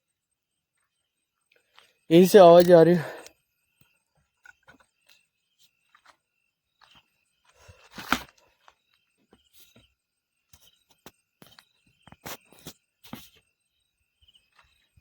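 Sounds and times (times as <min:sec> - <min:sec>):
faint steady insect tone: 0:00.0 - 0:15.0.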